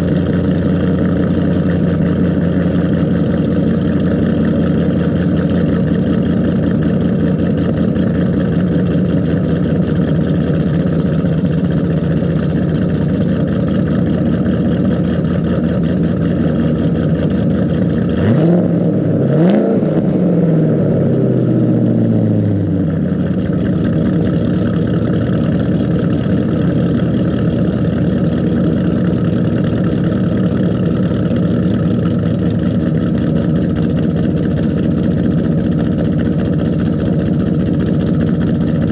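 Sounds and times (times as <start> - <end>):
car engine idling loudly: 0.0 - 38.9.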